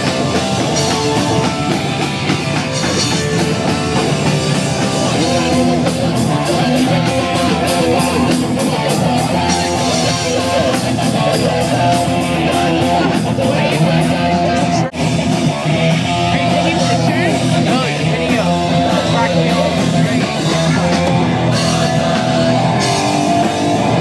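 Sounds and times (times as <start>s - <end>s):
live punk band playing: 0.0s - 24.0s.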